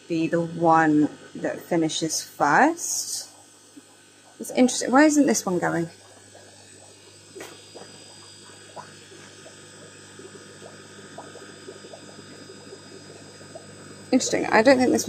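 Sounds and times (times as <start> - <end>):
aquarium pumps humming: 0.0 - 15.0
water bubbling and gurgling: 0.1 - 15.0.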